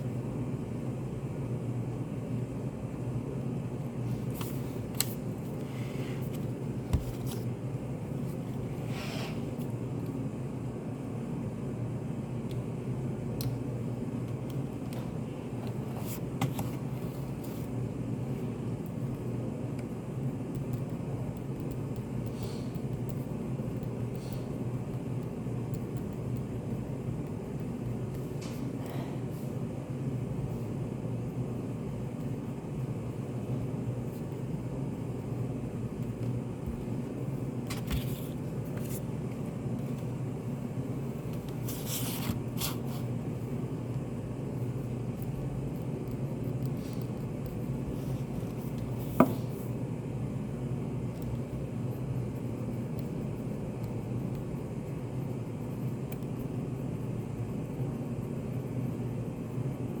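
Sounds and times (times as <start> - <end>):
low room hum: 0.0 - 60.0.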